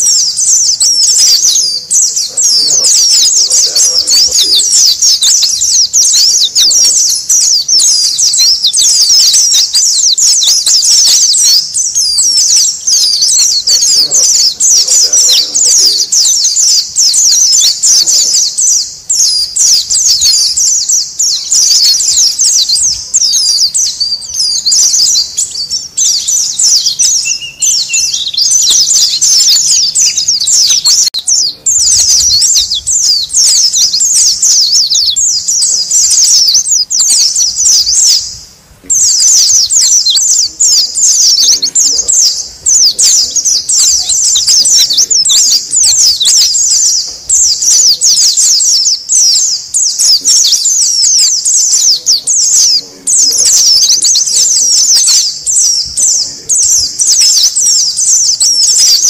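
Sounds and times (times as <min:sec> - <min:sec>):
flock of birds chattering: 0:00.0 - 0:59.0.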